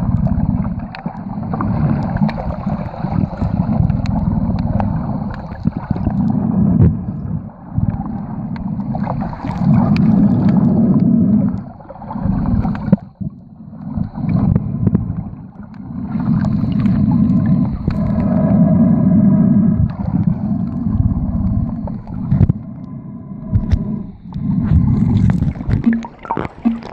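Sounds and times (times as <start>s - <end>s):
underwater rushing and rumble: 0.0s - 26.9s.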